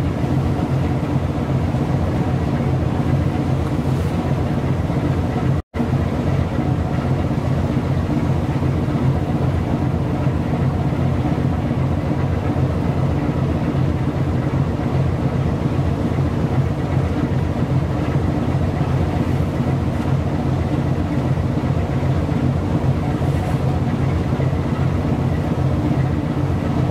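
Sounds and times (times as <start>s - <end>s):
ship engine humming: 0.0s - 26.9s.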